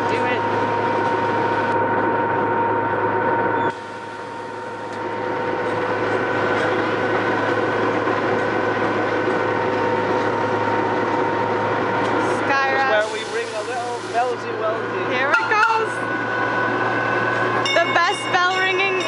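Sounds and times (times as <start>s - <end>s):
miniature train engine humming: 0.0s - 19.0s
whining tones: 0.0s - 19.0s.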